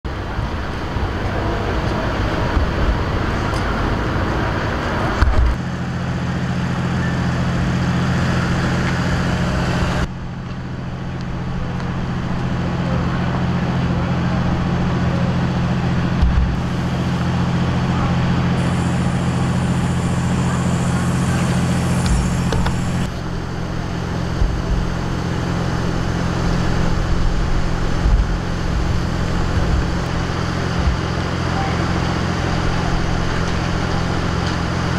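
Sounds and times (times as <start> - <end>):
idling vehicle engines hum: 0.0 - 34.9
traffic noise: 0.0 - 34.9.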